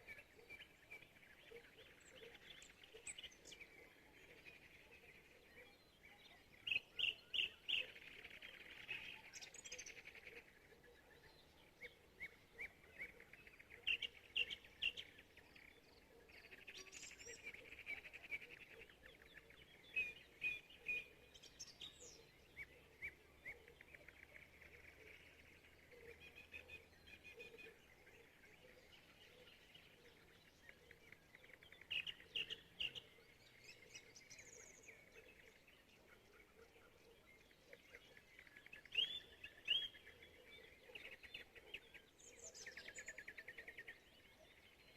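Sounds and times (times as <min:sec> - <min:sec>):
small birds calling: 0:00.0 - 0:44.9.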